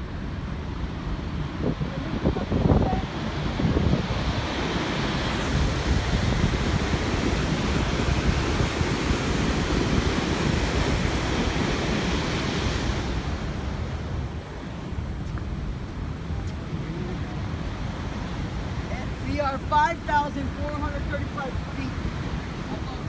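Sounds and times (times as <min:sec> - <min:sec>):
water rushing from dam outlet: 0:00.0 - 0:23.0
wind buffeting microphone: 0:00.0 - 0:23.0.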